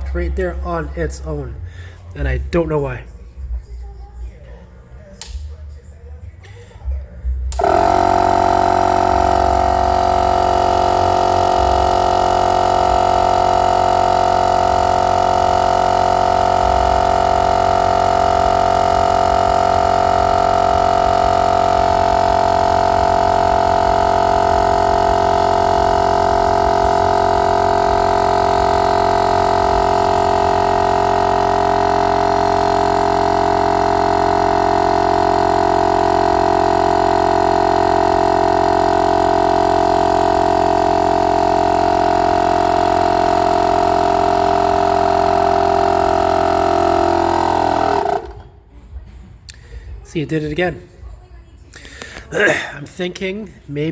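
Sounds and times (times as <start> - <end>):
air compressor humming: 0.0 - 53.9.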